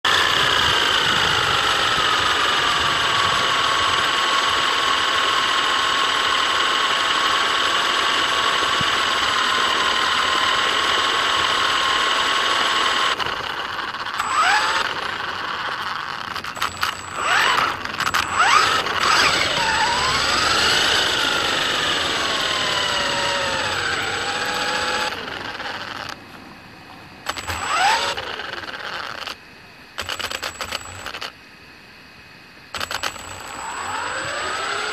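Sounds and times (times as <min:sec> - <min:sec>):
electric motor whining: 0:00.0 - 0:26.3, 0:27.3 - 0:29.4, 0:30.0 - 0:31.3, 0:32.8 - 0:34.9.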